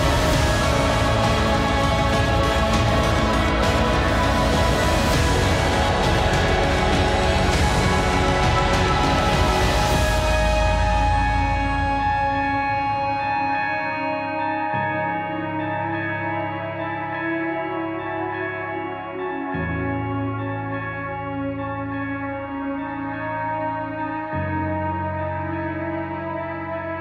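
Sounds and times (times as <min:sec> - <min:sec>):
music with sustained chords: 0:00.0 - 0:27.0.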